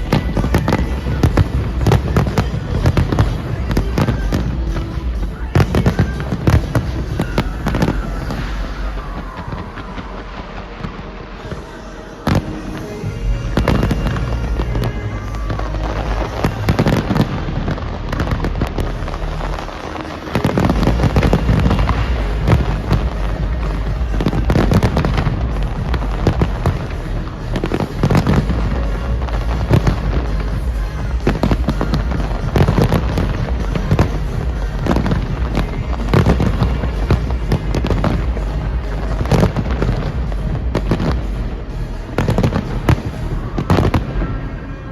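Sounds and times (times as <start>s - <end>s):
fireworks bangs and crackles: 0.0s - 44.9s
music with steady bass: 0.0s - 44.9s.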